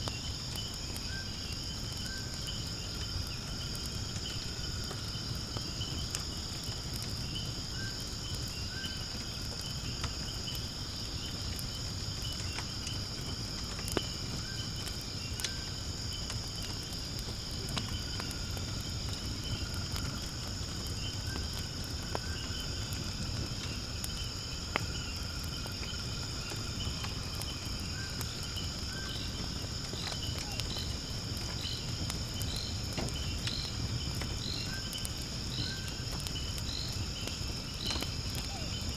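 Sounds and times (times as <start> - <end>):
firewood crackling and popping: 0.0 - 38.9
insects trilling: 0.0 - 38.9.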